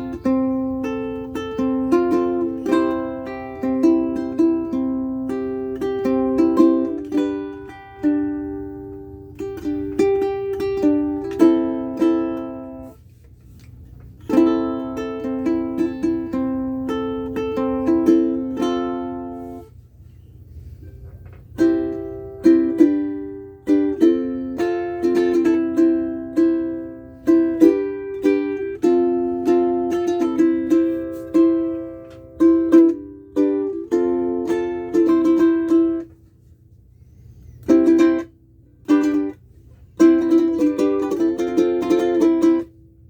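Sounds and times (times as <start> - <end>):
ukulele strummed and plucked: 0.0 - 19.7, 20.6 - 36.2, 37.5 - 43.0.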